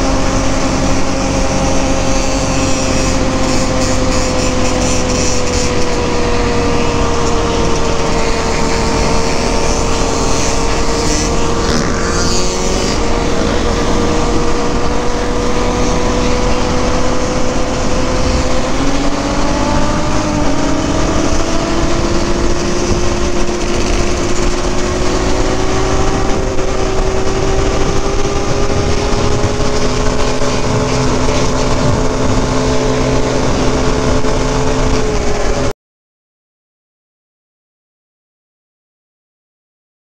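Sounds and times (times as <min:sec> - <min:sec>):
motorcycle engine running: 0:00.0 - 0:35.7
wind noise on microphone: 0:00.0 - 0:35.7.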